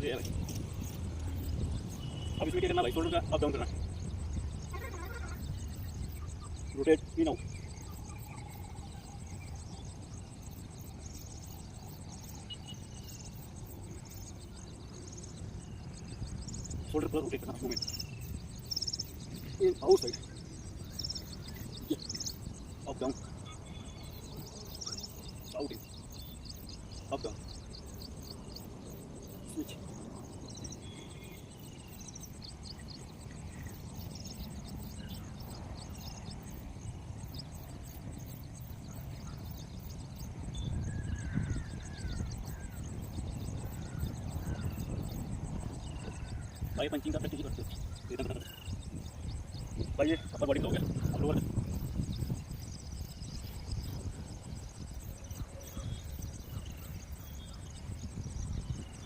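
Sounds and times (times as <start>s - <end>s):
insects chirping: 0.0s - 59.0s.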